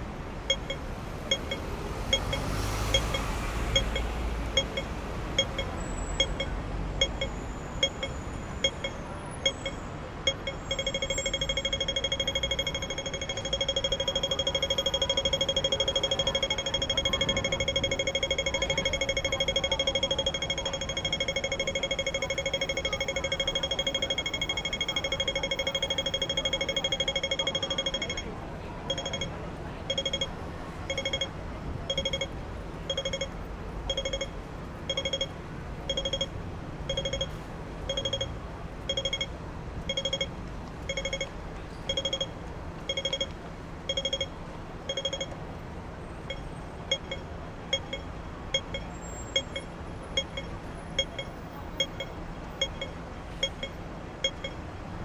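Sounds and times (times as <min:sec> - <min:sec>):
pedestrian crossing signal beeping: 0:00.4 - 0:55.0.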